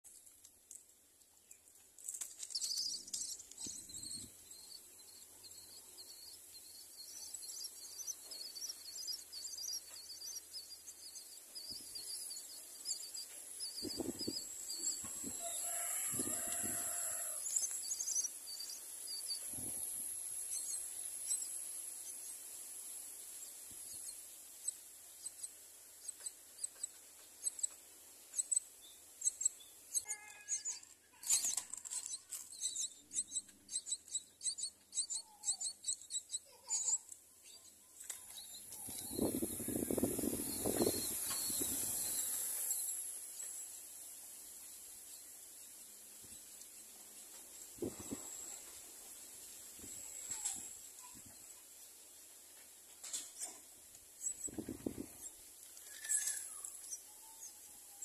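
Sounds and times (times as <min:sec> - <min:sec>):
nestlings chirping: 0:00.1 - 0:58.0.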